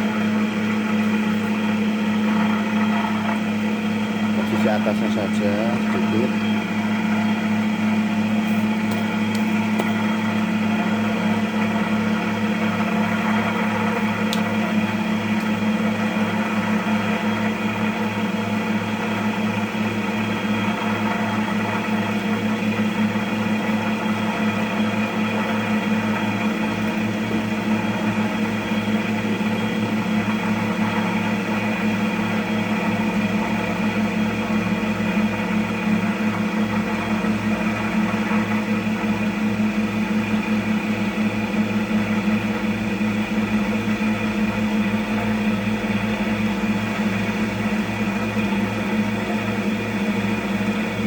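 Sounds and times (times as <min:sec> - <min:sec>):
cotton candy machine motor hum: 0:00.0 - 0:51.0.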